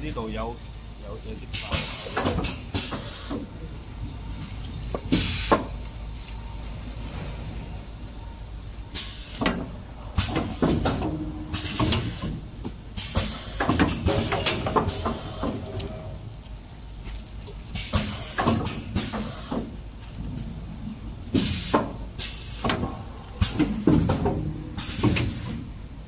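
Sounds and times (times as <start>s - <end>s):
machinery humming: 0.0s - 26.0s
pneumatic clacks and hisses: 1.4s - 26.0s.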